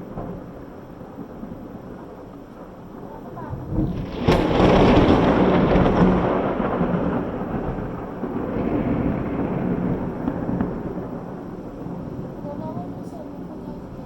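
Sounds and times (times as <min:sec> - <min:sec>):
loud rolling thunder: 0:00.0 - 0:14.0.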